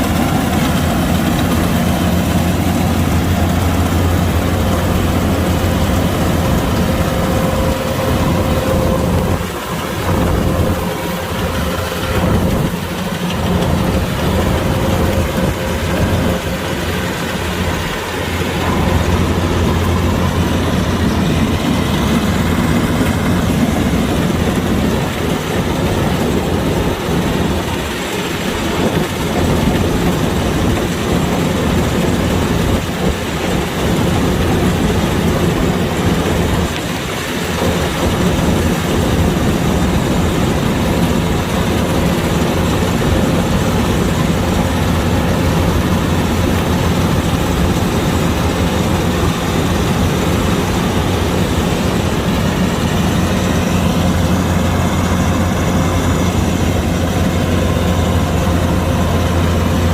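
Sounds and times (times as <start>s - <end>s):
combine harvester engine hum: 0.0s - 59.9s.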